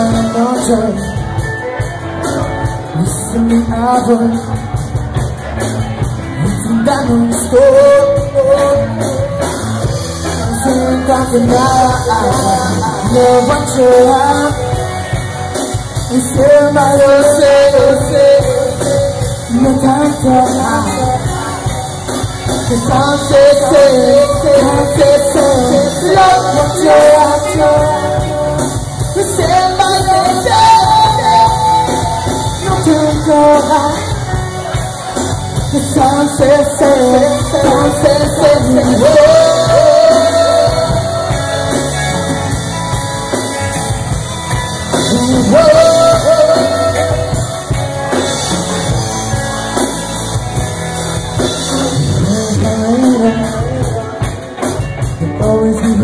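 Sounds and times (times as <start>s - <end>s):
person singing: 0.0s - 50.4s, 51.2s - 56.0s
drum kit: 0.0s - 56.0s
electric guitars: 0.0s - 56.0s.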